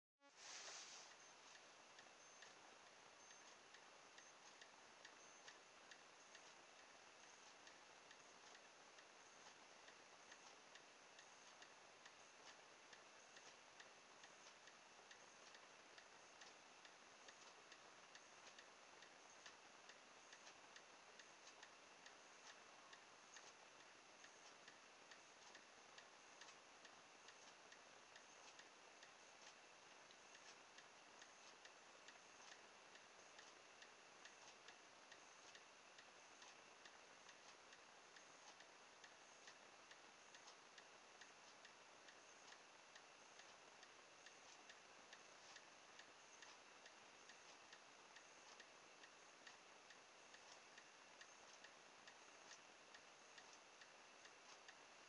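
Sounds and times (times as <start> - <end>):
faint steady ticking: 0.2 - 55.0.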